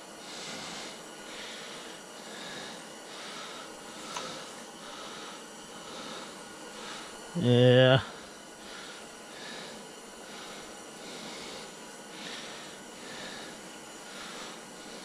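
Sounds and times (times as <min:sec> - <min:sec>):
man breathing heavily: 0:00.0 - 0:15.0
steady hiss: 0:00.0 - 0:15.0.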